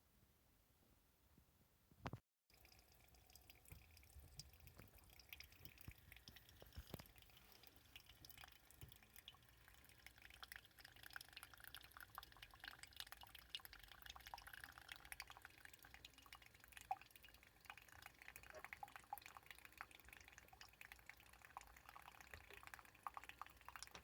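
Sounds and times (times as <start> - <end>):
coffee dripping: 2.5 - 24.0.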